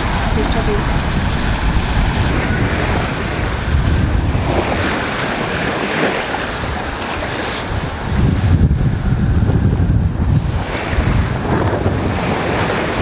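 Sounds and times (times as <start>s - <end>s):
water rushing and splashing: 0.0s - 13.0s
wind buffeting microphone: 0.0s - 13.0s.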